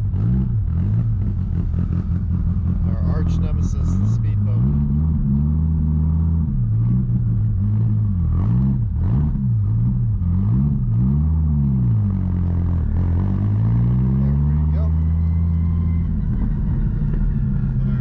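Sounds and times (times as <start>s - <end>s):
car engine revving while driving: 0.0s - 18.0s.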